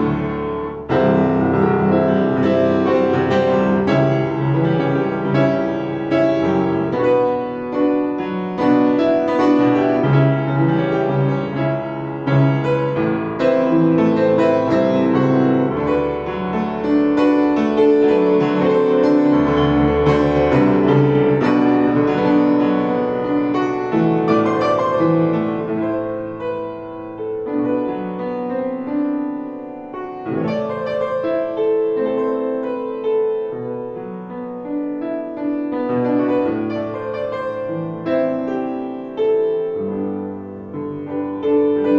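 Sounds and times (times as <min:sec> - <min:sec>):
acoustic piano melody: 0:00.0 - 0:41.9.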